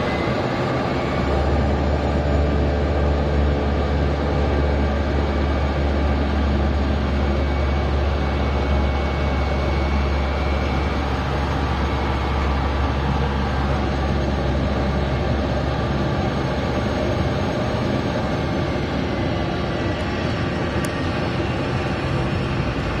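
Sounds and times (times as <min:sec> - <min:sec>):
turboprop engine and propeller running: 0:00.0 - 0:23.0.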